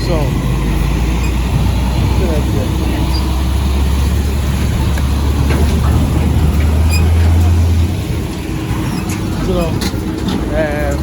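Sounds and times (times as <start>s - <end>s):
heavy vehicle engine rumble: 0.0s - 11.0s
road traffic: 0.0s - 11.0s.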